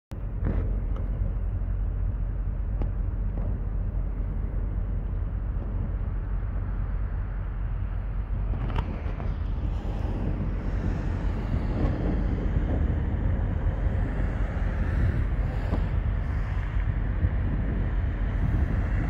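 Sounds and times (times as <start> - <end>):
ship rumbling past: 0.2 - 19.0.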